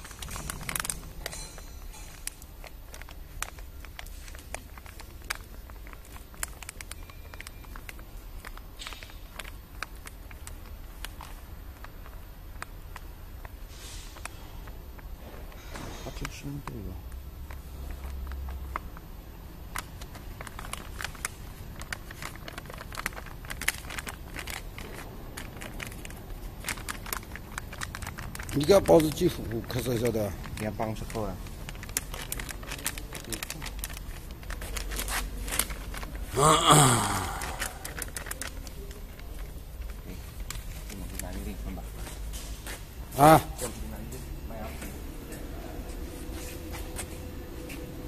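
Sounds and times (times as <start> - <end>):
plastic bag crackling: 0.0 - 15.5, 16.3 - 42.3.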